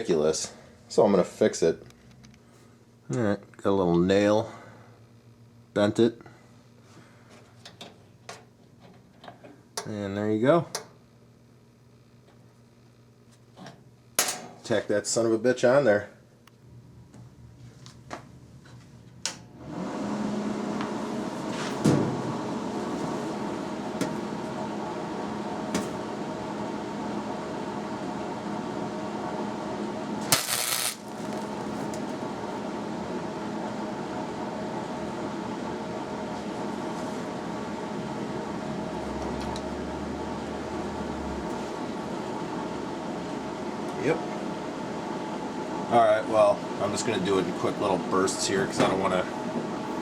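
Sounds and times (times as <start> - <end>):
welder fan and transformer hum: 0.0 - 50.0.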